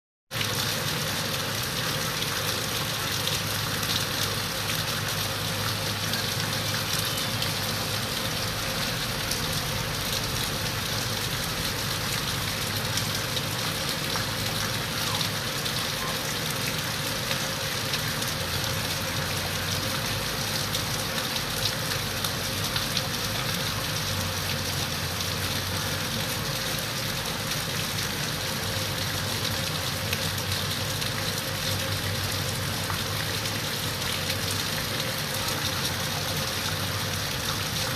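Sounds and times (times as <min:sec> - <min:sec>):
steady rainfall: 0:00.3 - 0:37.9.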